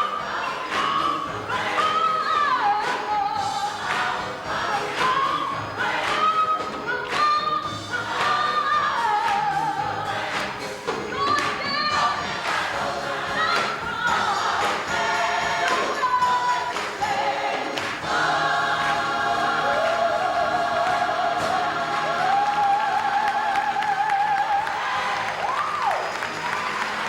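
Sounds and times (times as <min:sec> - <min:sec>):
gospel choir singing: 0:00.0 - 0:27.0.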